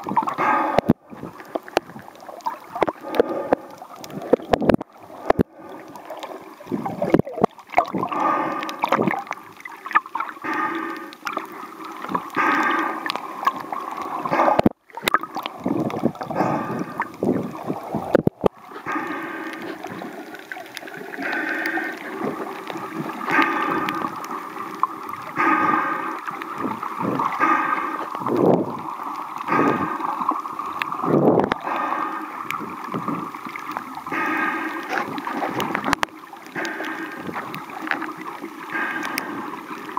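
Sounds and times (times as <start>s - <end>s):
water gurgling underwater: 0.0s - 39.9s.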